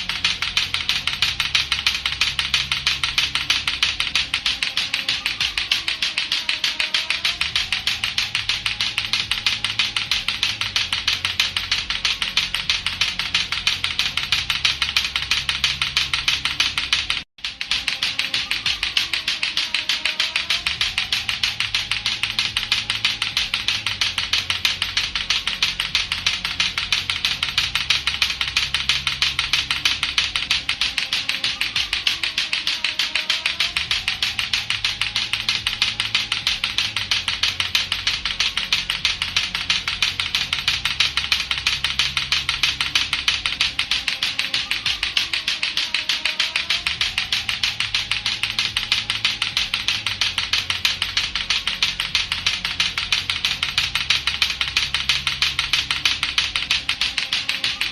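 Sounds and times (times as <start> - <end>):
clacker balls clacking: 0.0 - 57.9.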